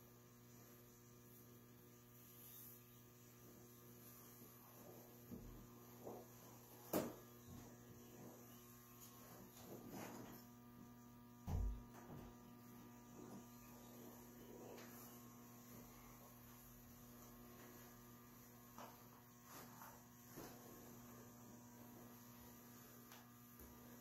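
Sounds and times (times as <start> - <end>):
faint electrical mains hum: 0.0 - 24.0.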